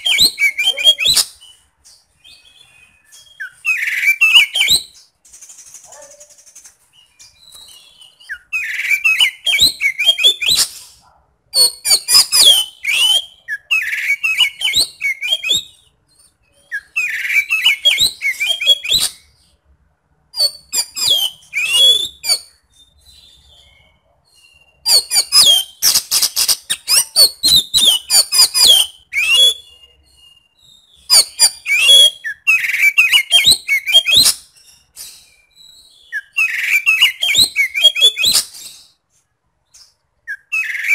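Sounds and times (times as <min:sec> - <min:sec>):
bird singing harsh rapid phrases: 0:00.0 - 0:19.6, 0:20.4 - 0:39.0, 0:39.7 - 0:40.9.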